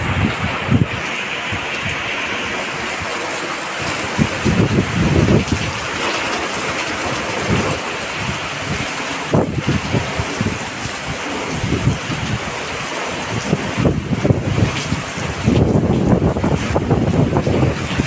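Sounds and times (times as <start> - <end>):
heavy rain pouring: 0.0 - 18.0
wind buffeting microphone: 0.0 - 18.0.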